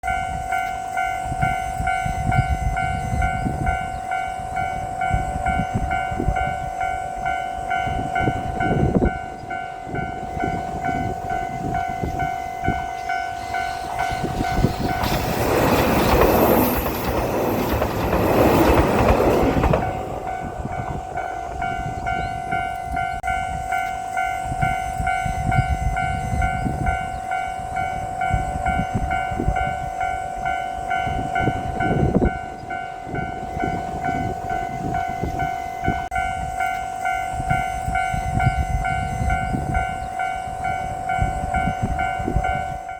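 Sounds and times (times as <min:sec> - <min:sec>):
level-crossing electronic bell: 0:00.0 - 0:42.9
diesel train rushing past: 0:00.2 - 0:42.9.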